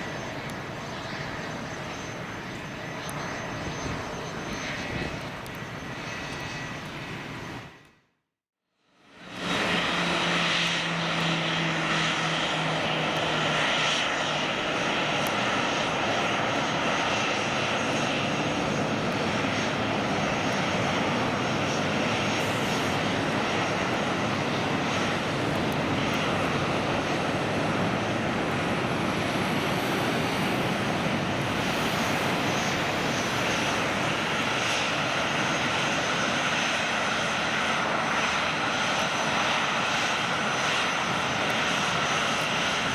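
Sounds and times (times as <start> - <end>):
jet engines roaring: 0.0 - 7.9, 9.0 - 42.9.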